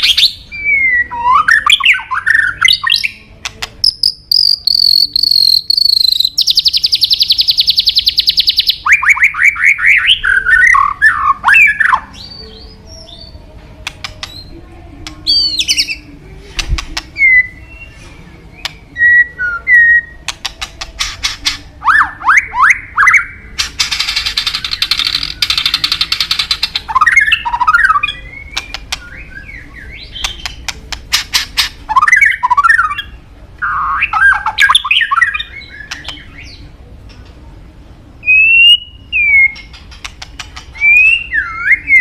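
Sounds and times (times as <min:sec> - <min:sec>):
bird singing varied song: 0:00.0 - 0:16.2, 0:16.8 - 0:37.3, 0:38.2 - 0:42.0.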